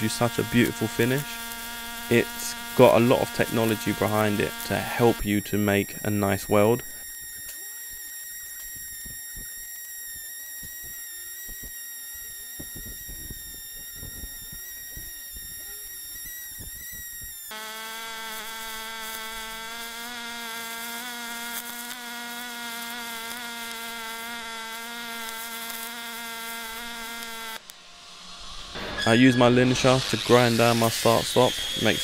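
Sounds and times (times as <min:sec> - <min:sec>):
welding arc buzzing: 0:00.0 - 0:32.0.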